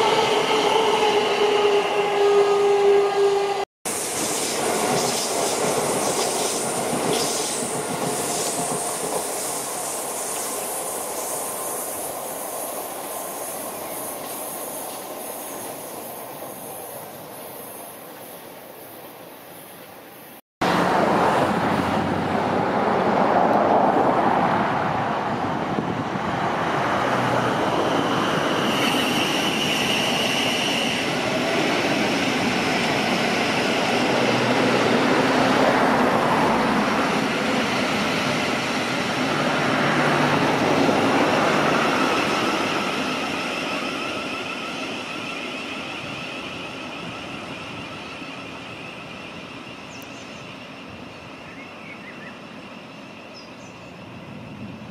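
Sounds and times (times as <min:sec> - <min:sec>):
electric train rumbling past: 0:00.0 - 0:54.9.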